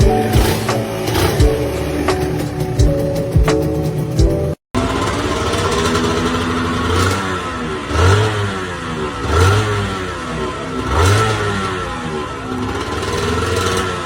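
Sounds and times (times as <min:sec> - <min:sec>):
two-stroke engine revving: 0:00.0 - 0:03.3, 0:04.8 - 0:14.0.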